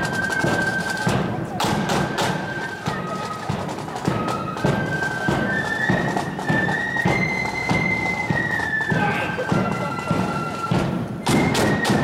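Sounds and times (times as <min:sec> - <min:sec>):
flutes playing a melody: 0:00.0 - 0:12.0
steady drum beat: 0:00.0 - 0:12.0.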